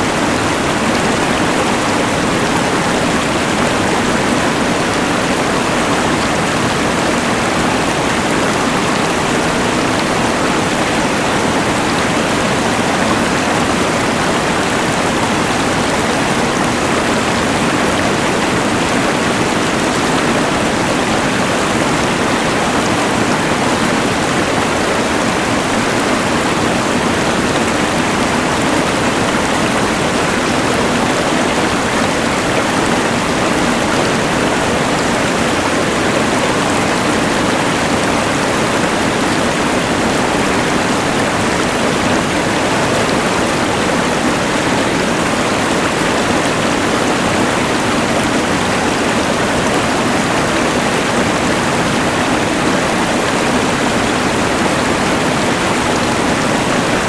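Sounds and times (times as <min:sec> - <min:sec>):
rushing river: 0:00.0 - 0:57.0.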